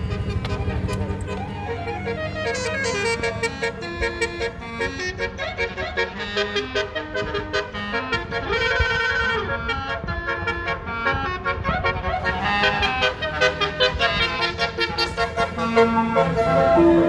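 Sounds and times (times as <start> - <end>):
low vehicle rumble: 0.0 - 17.0
musical air horn playing a tune: 0.0 - 17.0.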